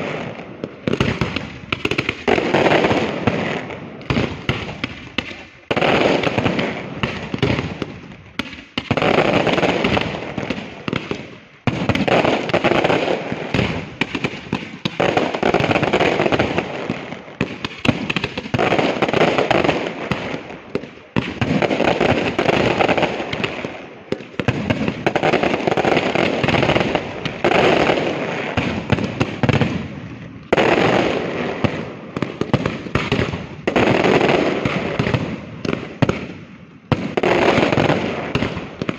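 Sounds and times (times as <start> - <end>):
fireworks bursts and bangs: 0.0 - 38.9.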